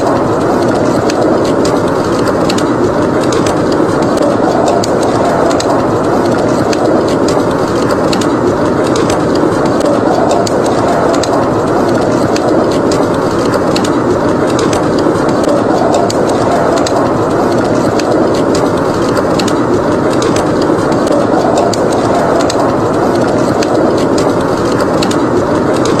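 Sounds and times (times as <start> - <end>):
wind rushing: 0.0 - 26.0
wood fire crackling: 0.0 - 26.0.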